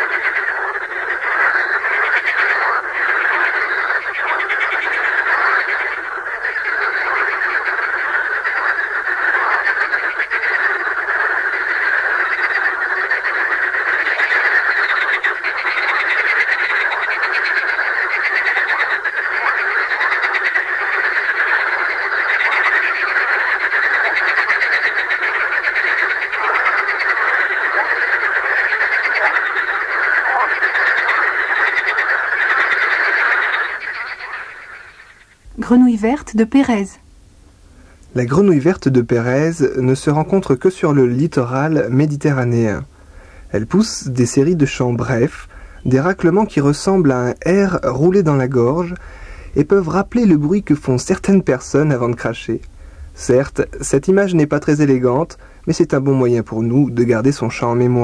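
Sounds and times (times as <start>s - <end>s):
frog chorus: 0.0s - 37.1s, 37.8s - 58.0s.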